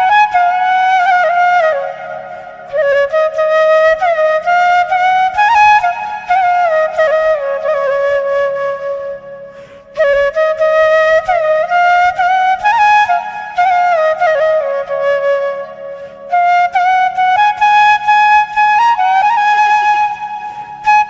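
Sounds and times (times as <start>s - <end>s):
flute playing slow melody: 0.0s - 21.0s.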